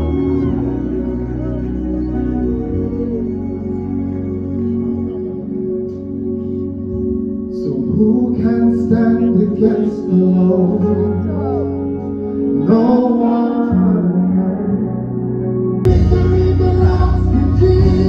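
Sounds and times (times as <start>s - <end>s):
band playing held chords: 0.0s - 18.0s
guitar: 0.0s - 18.0s
person singing: 0.0s - 18.0s.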